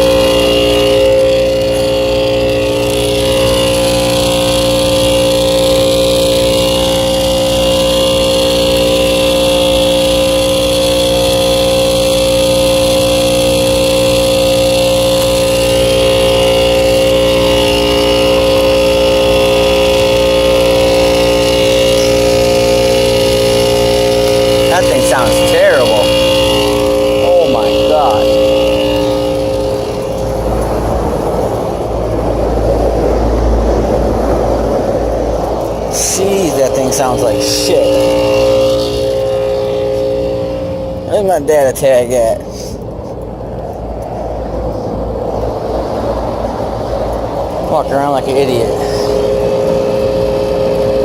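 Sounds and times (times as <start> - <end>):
rough compressor hum: 0.0 - 51.0.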